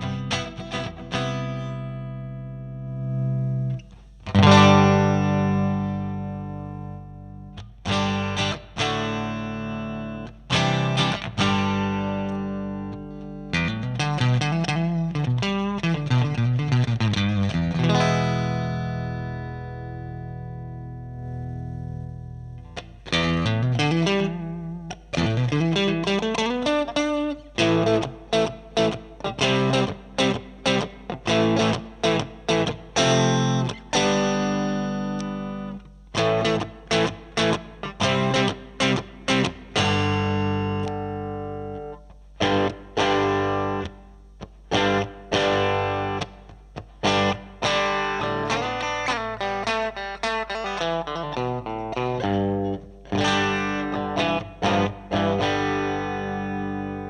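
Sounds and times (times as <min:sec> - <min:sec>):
distorted electric guitar chords: 0:00.0 - 0:57.0.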